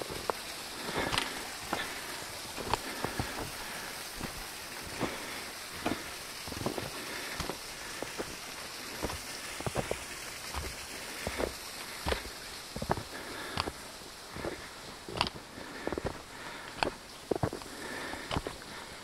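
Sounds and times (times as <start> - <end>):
footsteps crunching in snow: 0.0 - 18.6
steady hiss: 0.0 - 19.0.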